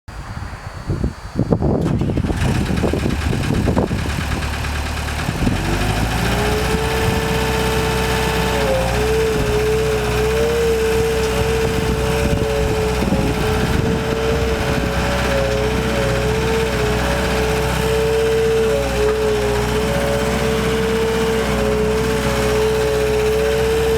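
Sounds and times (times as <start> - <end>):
diesel engine running: 0.1 - 23.9
steady whine: 0.1 - 23.9.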